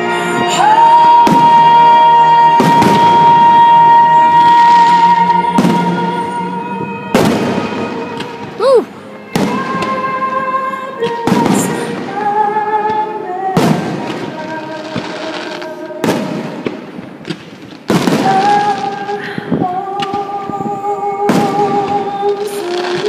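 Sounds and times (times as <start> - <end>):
fireworks booming with echo: 0.0 - 23.0
music with long held notes: 0.0 - 23.0.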